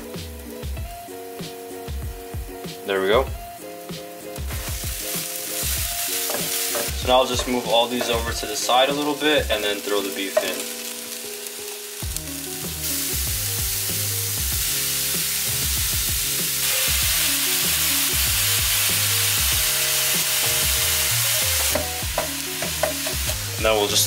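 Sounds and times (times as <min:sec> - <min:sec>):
ground beef sizzling: 0:00.0 - 0:24.0.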